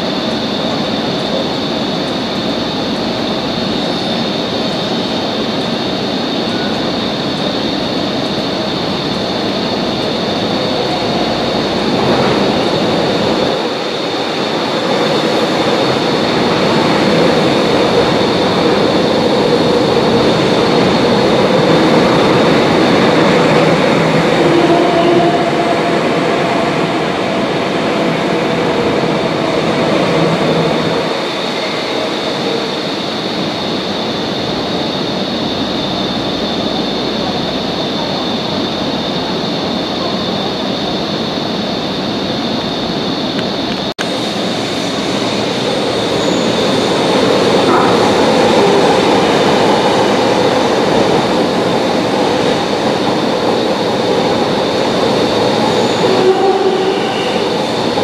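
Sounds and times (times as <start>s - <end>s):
metro train rumbling past: 0.0s - 58.0s.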